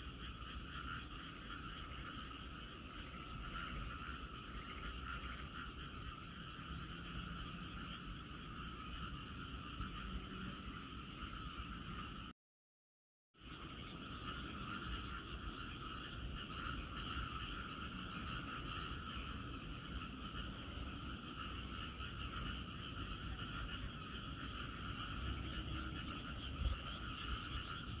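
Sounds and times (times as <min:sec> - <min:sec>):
chorus of frogs calling: 0:00.0 - 0:12.3, 0:13.4 - 0:28.0.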